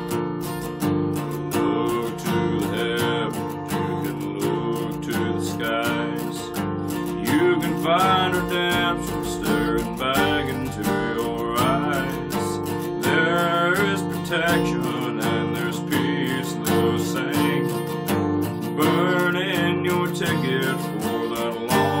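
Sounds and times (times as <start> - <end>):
man singing country song: 0.0 - 22.0
strummed acoustic guitar: 0.0 - 22.0.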